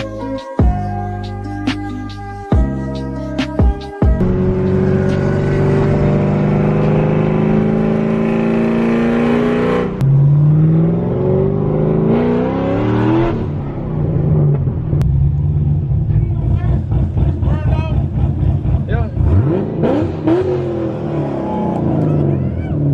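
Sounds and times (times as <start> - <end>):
car engine accelerating: 4.1 - 22.9.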